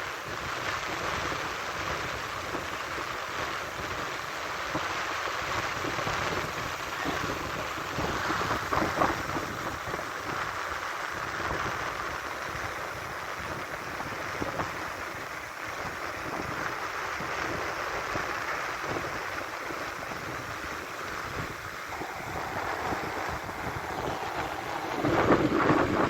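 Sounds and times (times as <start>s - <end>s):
surf breaking on beach: 0.1s - 26.0s
wind buffeting microphone: 4.7s - 26.0s.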